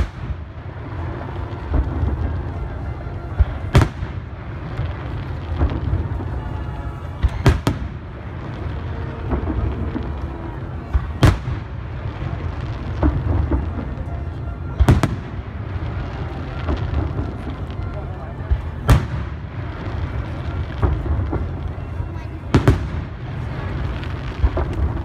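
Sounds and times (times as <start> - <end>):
rumble of distant firework bursts: 0.0 - 25.0.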